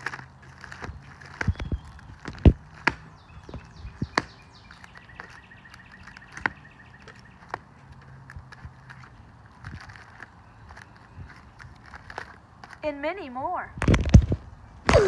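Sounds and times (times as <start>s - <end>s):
plastic binder pages flipping: 0.0s - 12.8s, 13.8s - 15.0s.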